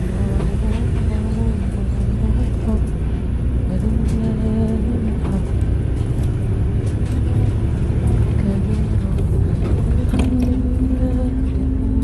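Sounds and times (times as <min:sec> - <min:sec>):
bus engine rumble: 0:00.0 - 0:12.0
tyres on the road: 0:00.0 - 0:12.0.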